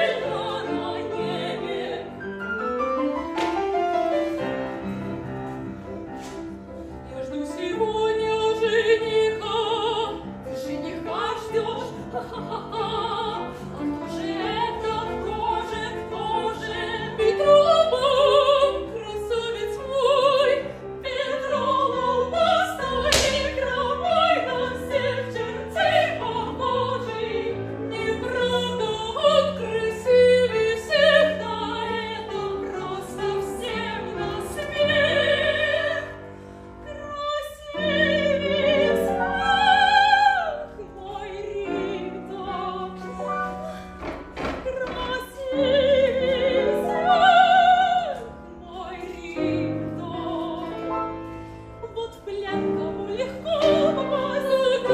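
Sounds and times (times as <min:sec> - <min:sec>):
instrumental accompaniment: 0:00.0 - 0:54.9.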